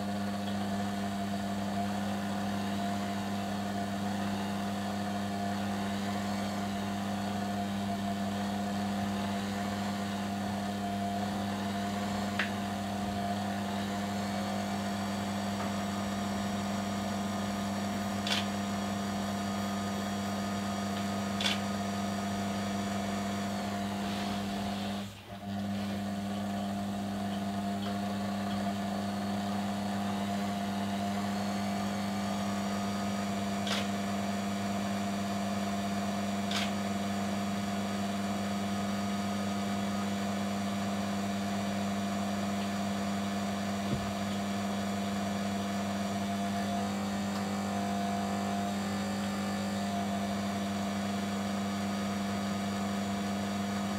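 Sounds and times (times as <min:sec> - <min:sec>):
small electric motor humming: 0:00.0 - 0:53.9.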